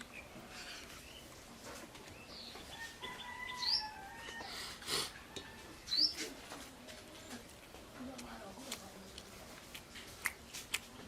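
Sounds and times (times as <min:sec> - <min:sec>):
small birds chirping: 0:00.0 - 0:04.8, 0:05.5 - 0:10.8.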